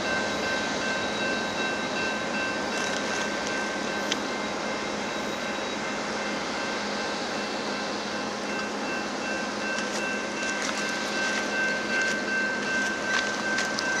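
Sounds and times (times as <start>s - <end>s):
train wheels rushing on rail: 0.0s - 14.0s.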